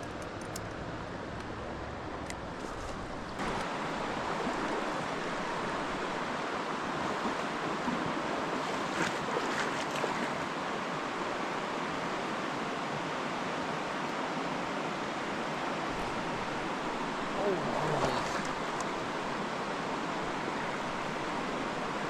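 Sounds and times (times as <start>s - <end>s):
stream rushing over boulders: 0.0s - 22.0s.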